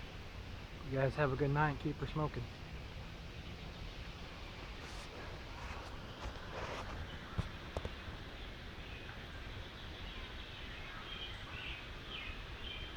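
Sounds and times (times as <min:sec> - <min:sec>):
background hiss and rumble: 0:00.0 - 0:12.9.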